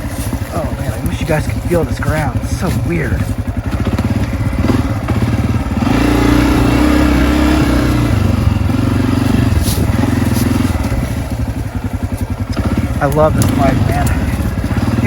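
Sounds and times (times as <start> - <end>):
dirt bike engine chugging: 0.0 - 15.0.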